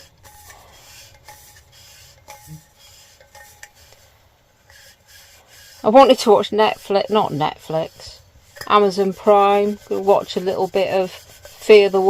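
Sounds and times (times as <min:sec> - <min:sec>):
scrubbing inside a cup: 0:00.0 - 0:12.0.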